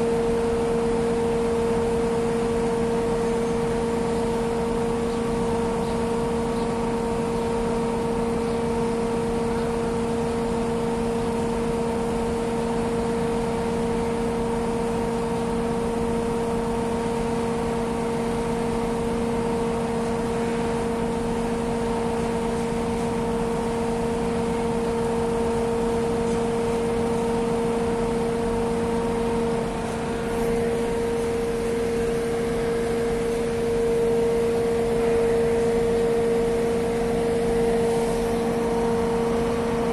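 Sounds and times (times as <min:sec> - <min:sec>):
crane diesel engine droning: 0:00.0 - 0:39.9
hydraulic whine: 0:00.0 - 0:39.9.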